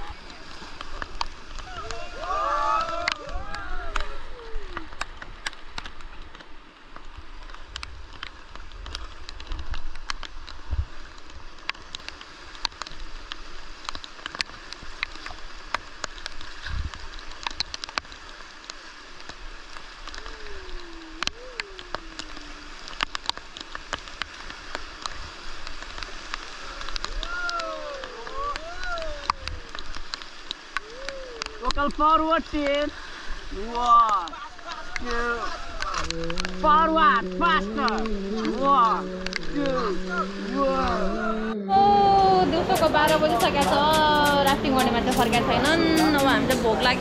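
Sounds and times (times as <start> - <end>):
rain falling on water: 0.0 - 47.0
river water rushing: 0.0 - 47.0.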